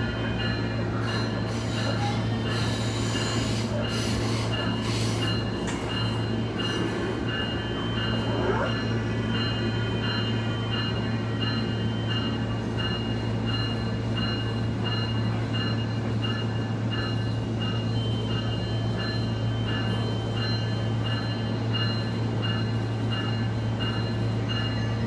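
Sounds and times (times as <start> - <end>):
train low hum: 0.0 - 25.0.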